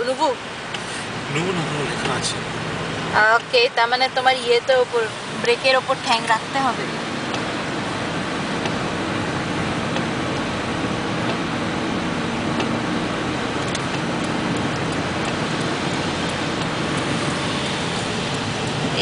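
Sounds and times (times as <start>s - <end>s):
low engine hum: 0.0s - 19.0s
tyre noise on wet road: 0.0s - 19.0s.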